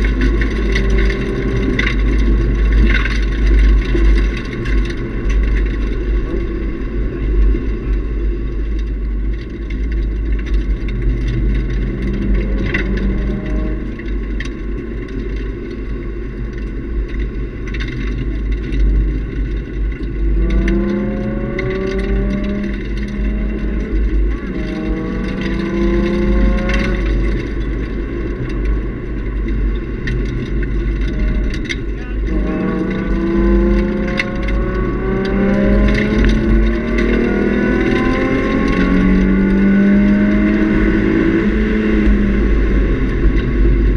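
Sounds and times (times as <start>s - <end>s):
car engine running hard: 0.0s - 43.9s
road and wind rumble: 0.0s - 43.9s.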